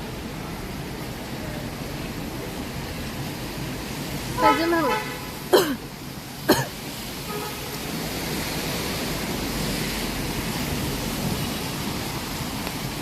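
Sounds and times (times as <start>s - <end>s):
tyres swishing on wet road: 0.0s - 13.0s.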